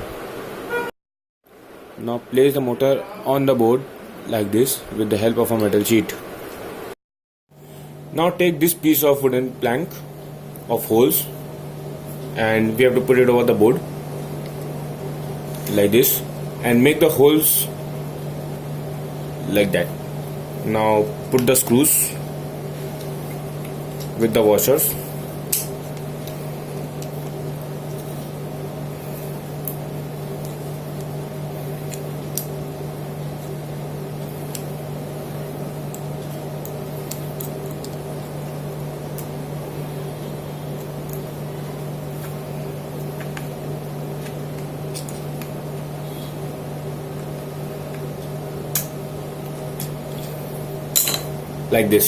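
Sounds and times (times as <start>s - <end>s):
steady low hum: 1.5s - 52.0s.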